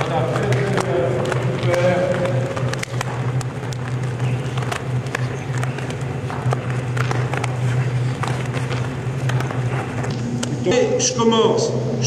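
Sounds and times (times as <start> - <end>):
hands and shoes tapping wooden floor: 0.0 - 10.2
steady low hum: 0.0 - 12.0.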